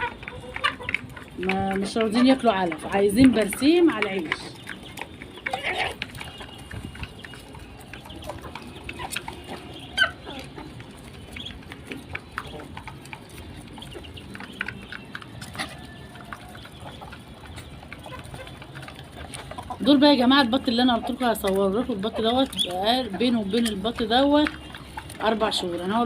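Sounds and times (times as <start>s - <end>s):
ducklings peeping: 0.0s - 26.0s
poultry clucking: 0.0s - 26.0s.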